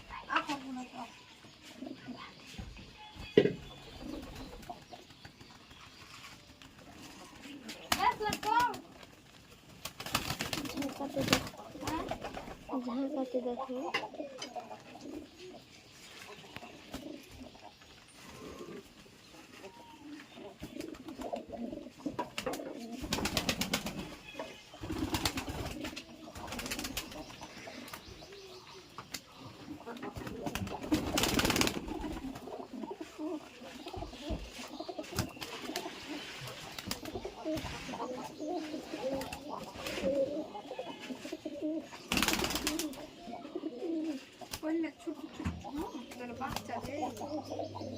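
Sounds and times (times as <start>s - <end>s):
pigeons cooing: 3.6s - 5.0s, 10.0s - 47.9s.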